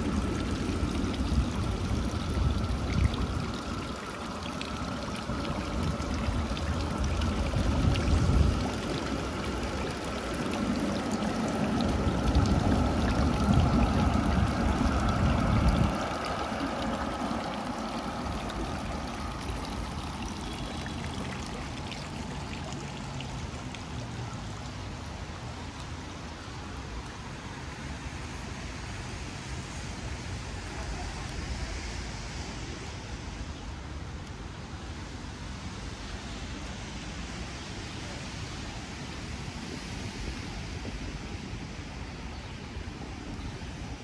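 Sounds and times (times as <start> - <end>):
pouring water with low rumble: 0.0 - 44.0.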